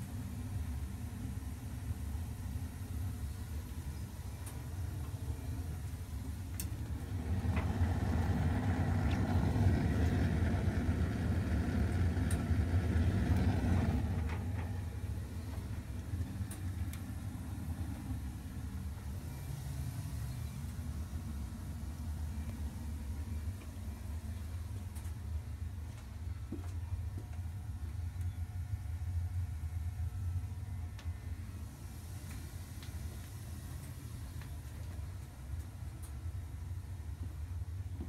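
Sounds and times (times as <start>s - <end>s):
heating equipment motor hum: 0.0s - 38.0s.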